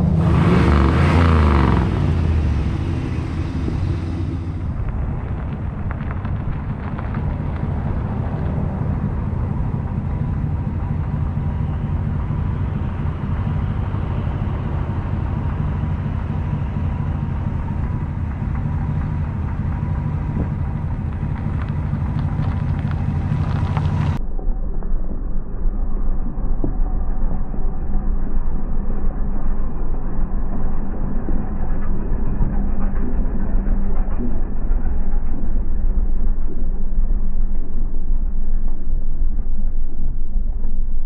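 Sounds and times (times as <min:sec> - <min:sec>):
car engine deep rumble: 0:00.0 - 0:41.0.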